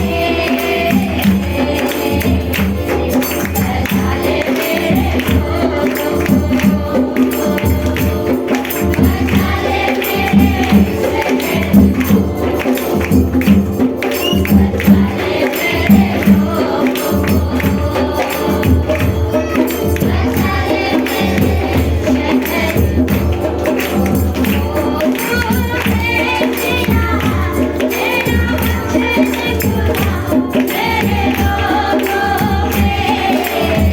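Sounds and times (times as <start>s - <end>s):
group singing: 0.0s - 33.9s
tambourine beat: 0.0s - 33.9s.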